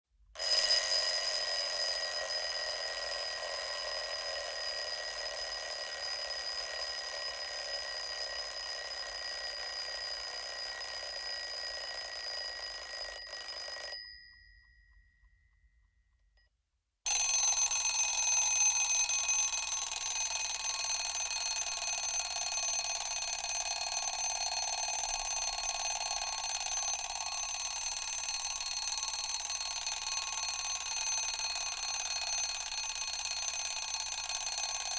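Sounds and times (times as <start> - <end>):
alarm clock bell ringing: 0.4 - 15.8, 17.1 - 34.9.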